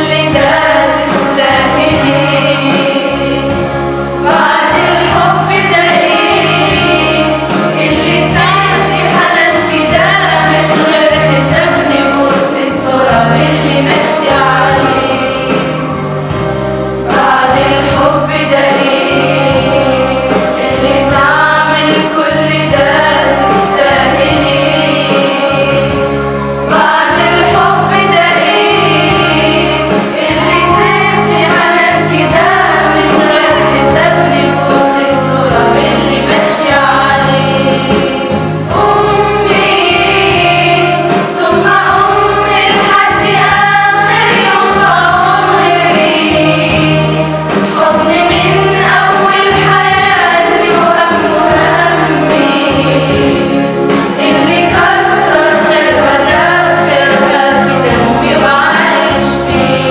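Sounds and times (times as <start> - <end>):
girls choir singing: 0.0 - 59.9
instrumental backing with bass: 0.0 - 59.9.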